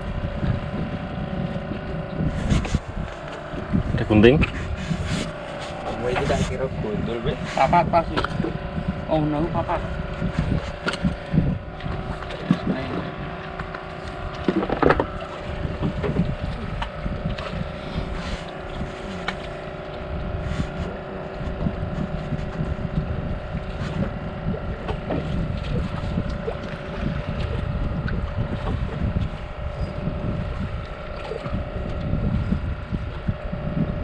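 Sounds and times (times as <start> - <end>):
boat engine drone: 0.0 - 34.0
wind buffeting microphone: 0.0 - 34.0.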